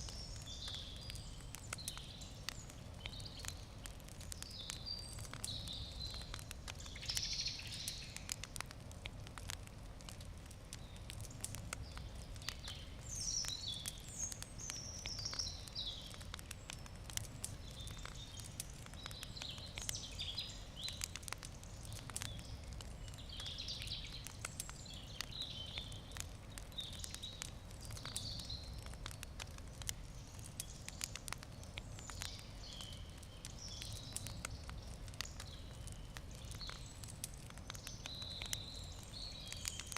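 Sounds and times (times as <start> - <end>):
birds singing: 0.0 - 8.4, 11.8 - 29.2, 30.0 - 39.9
campfire crackling: 0.0 - 39.9.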